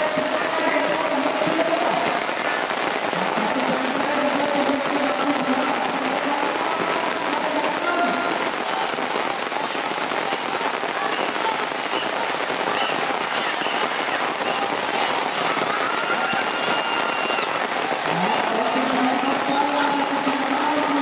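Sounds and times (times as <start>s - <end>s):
heavy rain on a river: 0.0s - 21.0s.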